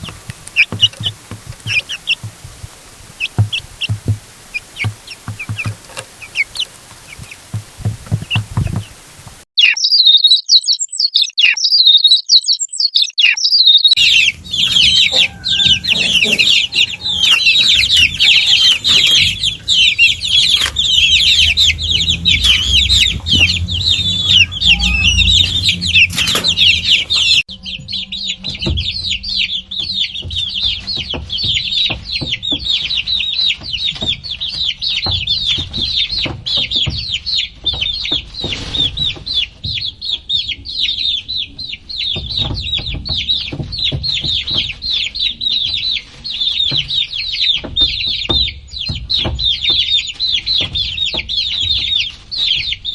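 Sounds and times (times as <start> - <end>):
chicks peeping: 0.0 - 35.6, 36.2 - 52.9.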